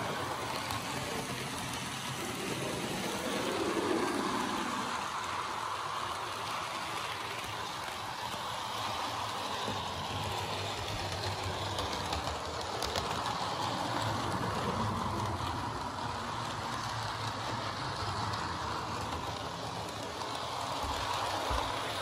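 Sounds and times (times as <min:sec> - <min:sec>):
model train wheels whirring on rails: 0:00.0 - 0:22.0.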